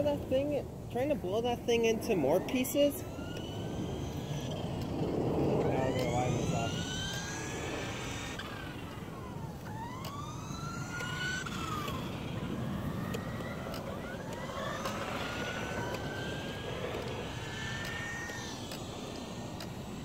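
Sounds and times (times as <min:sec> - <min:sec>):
toy car motors whining: 0:00.0 - 0:20.0.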